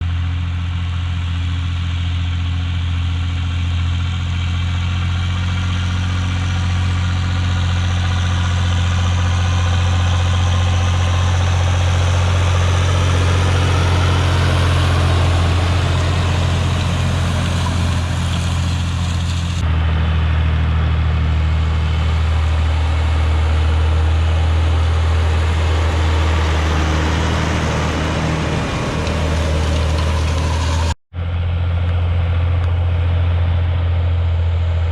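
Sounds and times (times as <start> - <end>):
tractor diesel engine running: 0.0 - 34.8.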